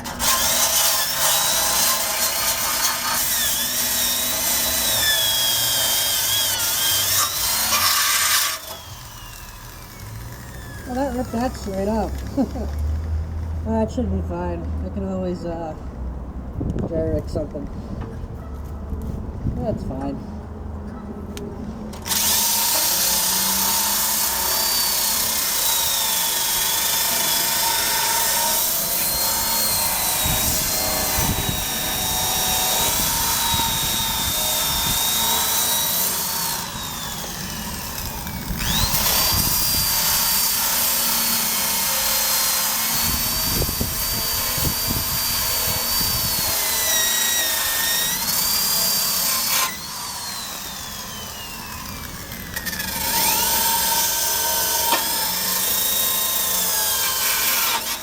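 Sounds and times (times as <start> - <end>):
drill wire brush scrubbing metal: 0.0 - 12.0, 22.0 - 58.0.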